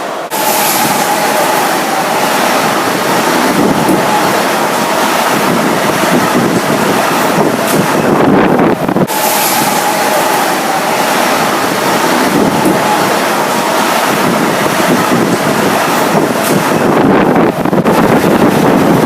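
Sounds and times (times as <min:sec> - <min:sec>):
train passing at speed: 0:00.0 - 0:19.0
wind buffeting microphone: 0:00.3 - 0:19.0.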